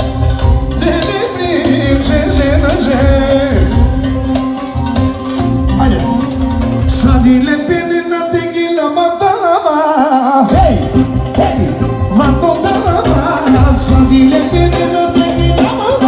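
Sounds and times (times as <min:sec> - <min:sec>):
live band music: 0:00.0 - 0:16.0
man singing: 0:00.6 - 0:04.7, 0:05.7 - 0:16.0.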